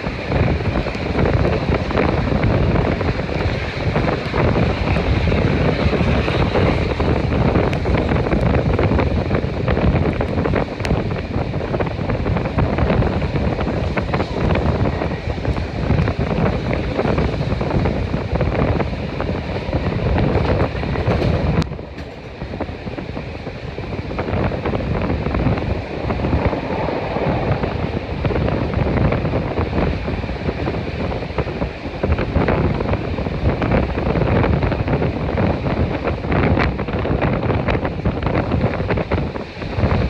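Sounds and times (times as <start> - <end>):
steam train running at speed: 0.0 - 40.0
wind buffeting the microphone: 0.0 - 40.0.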